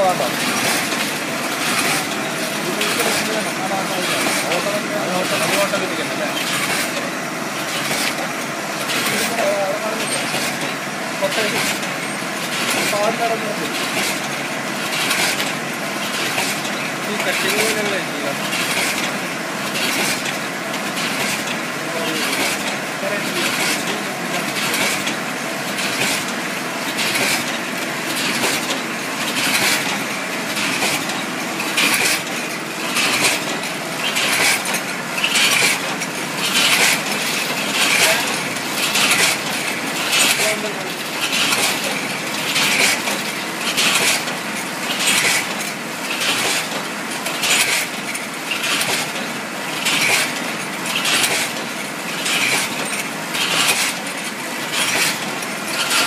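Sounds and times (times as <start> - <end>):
biscuits clattering through hoppers: 0.0 - 56.0
steady machine hum: 0.0 - 56.0.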